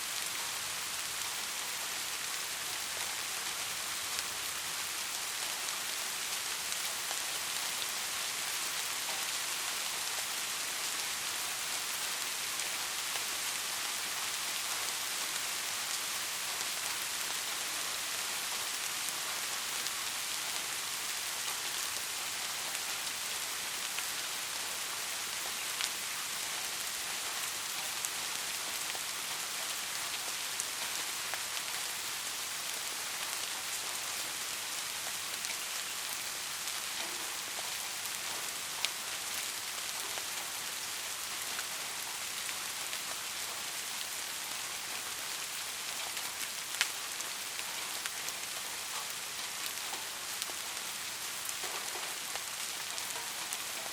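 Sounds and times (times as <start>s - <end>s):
steady rain falling: 0.0s - 53.9s
rain drops ticking: 0.1s - 53.9s.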